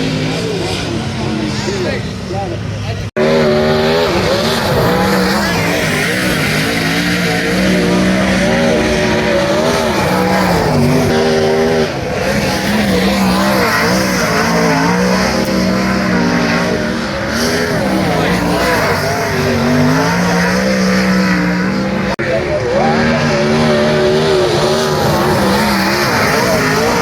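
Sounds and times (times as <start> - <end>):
sprint car engines racing: 0.0 - 27.0.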